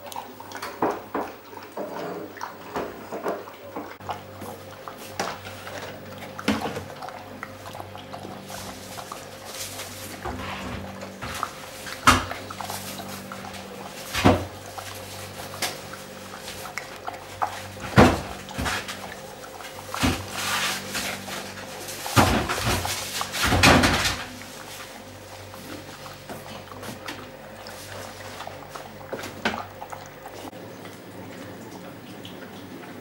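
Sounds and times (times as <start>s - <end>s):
dog eating from bowl: 0.0s - 33.0s.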